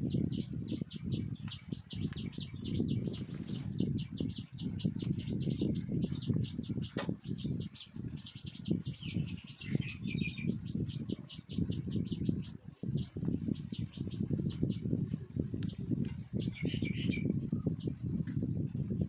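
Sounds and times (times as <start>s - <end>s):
pulsing low accompaniment: 0.0s - 19.0s.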